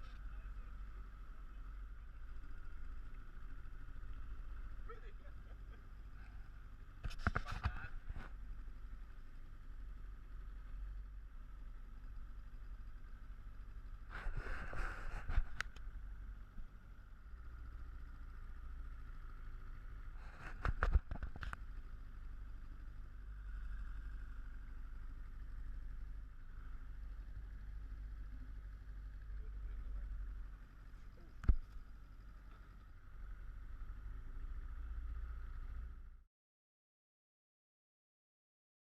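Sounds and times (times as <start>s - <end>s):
speedboat engine running: 0.0s - 36.0s.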